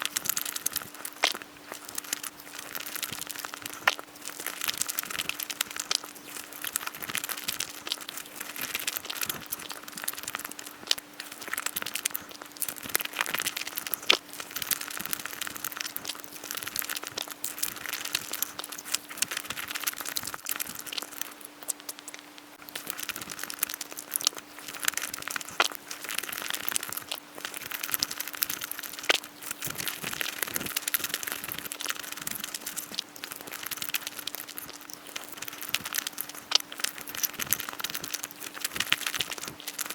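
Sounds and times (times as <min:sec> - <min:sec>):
crackly chewing: 0:00.0 - 0:39.9
wet mouth clicks: 0:00.0 - 0:39.9.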